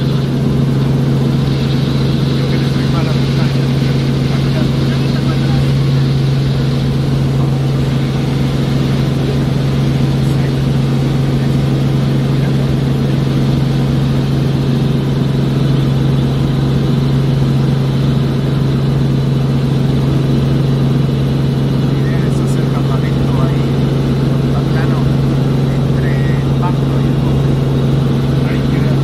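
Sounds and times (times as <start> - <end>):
helicopter engine and rotor drone: 0.0 - 29.0.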